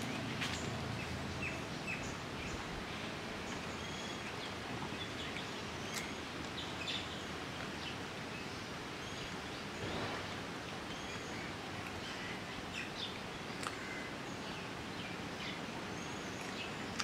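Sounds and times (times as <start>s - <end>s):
ambient hiss: 0.0s - 17.0s
small birds chirping: 0.0s - 17.0s.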